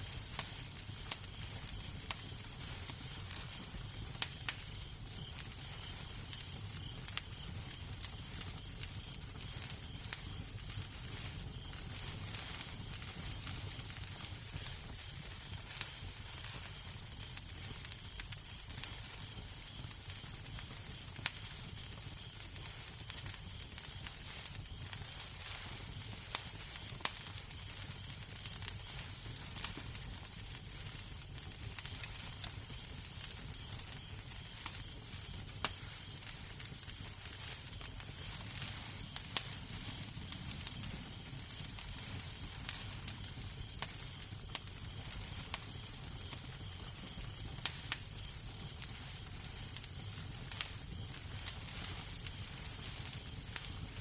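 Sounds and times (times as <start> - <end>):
fire low rumble: 0.0 - 54.0
wood fire crackling in fireplace: 0.0 - 54.0.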